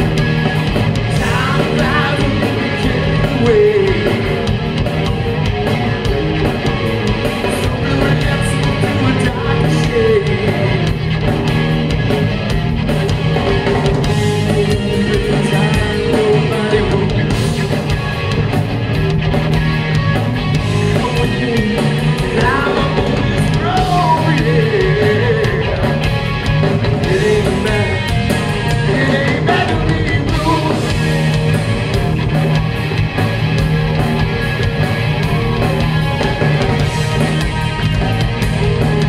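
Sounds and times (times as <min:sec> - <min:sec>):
distorted electric guitar: 0:00.0 - 0:39.0
rock band playing live: 0:00.0 - 0:39.0.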